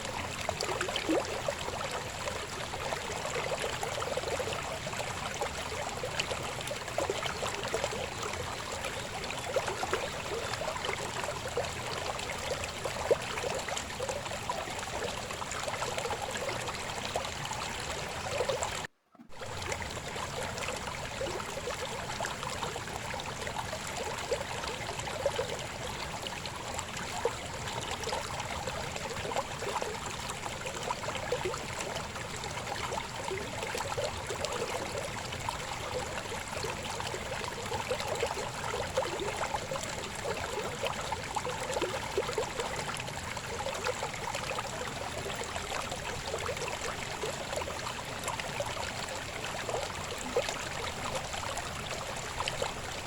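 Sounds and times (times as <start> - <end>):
river babbling and splashing: 0.0 - 53.0.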